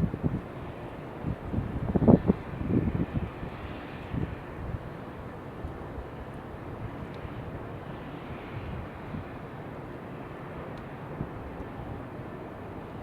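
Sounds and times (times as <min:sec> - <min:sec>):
wind rumbling against microphone: 0:00.0 - 0:13.0.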